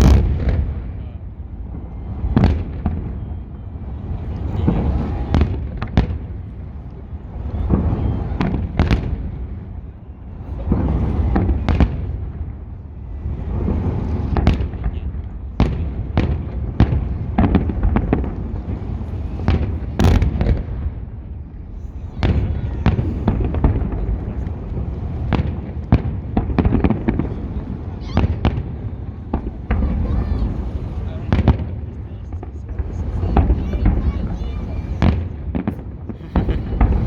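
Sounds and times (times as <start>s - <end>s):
fireworks bursting with sharp bangs: 0.0s - 37.0s.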